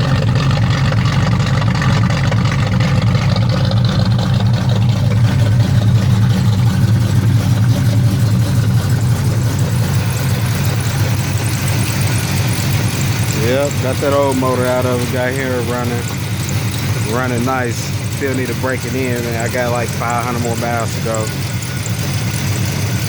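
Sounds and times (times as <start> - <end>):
engine idling with low rumble: 0.0 - 23.0.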